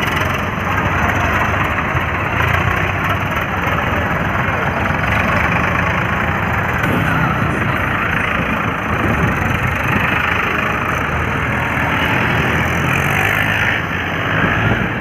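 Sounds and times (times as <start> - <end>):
diesel tractor engines running: 0.0 - 15.0
road noise: 0.0 - 15.0.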